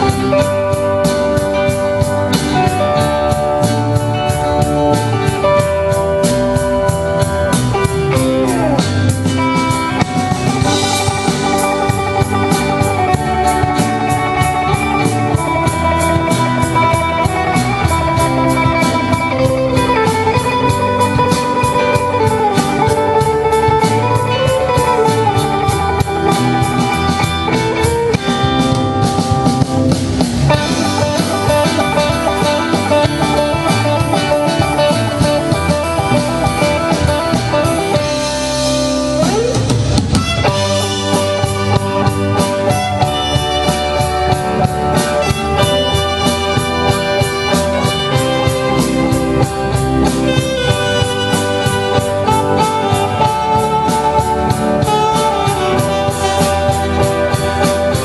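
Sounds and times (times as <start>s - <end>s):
drum kit fast beat: 0.0s - 58.0s
guitar: 0.0s - 58.0s.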